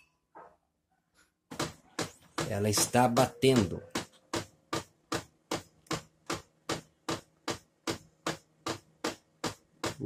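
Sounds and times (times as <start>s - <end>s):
laser printer knocking: 1.5s - 10.0s.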